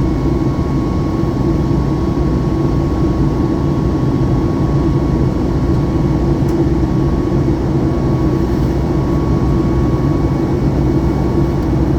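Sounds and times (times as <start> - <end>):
aircraft cabin drone: 0.0 - 11.9.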